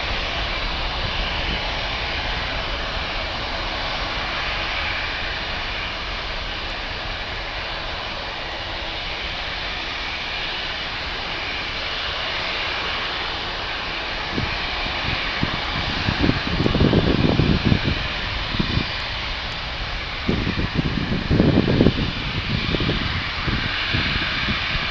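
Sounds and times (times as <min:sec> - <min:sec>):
jet engines at takeoff power: 0:00.0 - 0:24.9
uneven low rumbles: 0:00.0 - 0:24.9.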